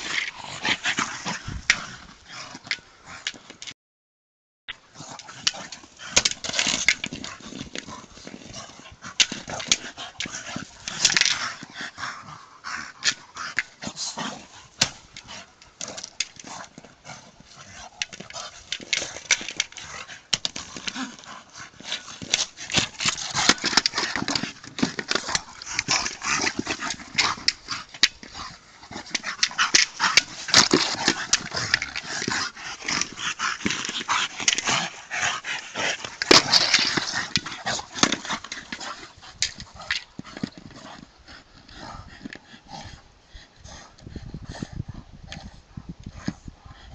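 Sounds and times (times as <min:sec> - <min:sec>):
dogs playing: 0:00.0 - 0:03.6, 0:04.9 - 0:46.9.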